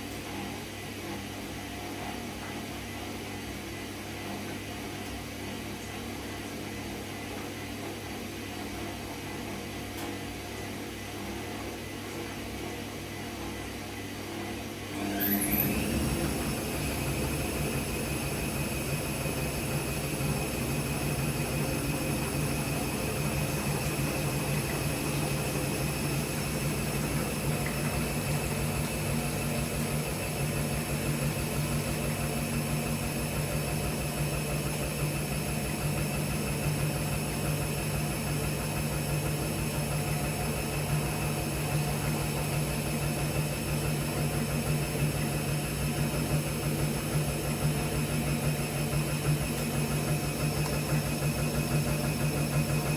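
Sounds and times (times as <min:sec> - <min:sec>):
washing machine running: 0:00.0 - 0:52.9.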